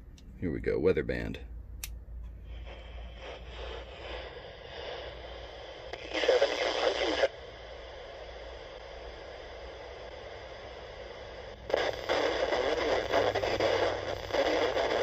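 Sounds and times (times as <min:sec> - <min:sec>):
radio static hiss: 0:02.4 - 0:15.0
weather broadcast on radio: 0:02.5 - 0:15.0.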